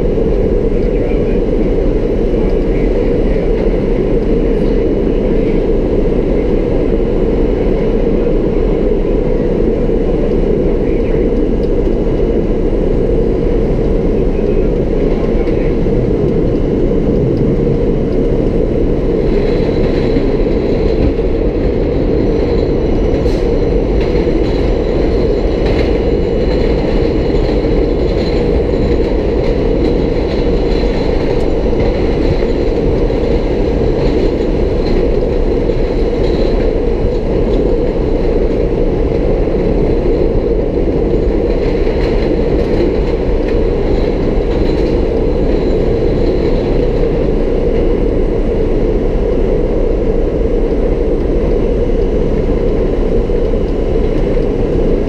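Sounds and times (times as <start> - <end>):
subway wheels rumbling on rail: 0.0 - 55.0.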